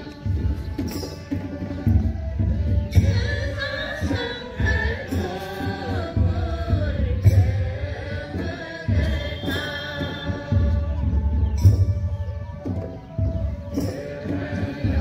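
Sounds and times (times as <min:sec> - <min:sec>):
backing music: 0:00.0 - 0:15.0
group singing chant-like song: 0:00.0 - 0:15.0.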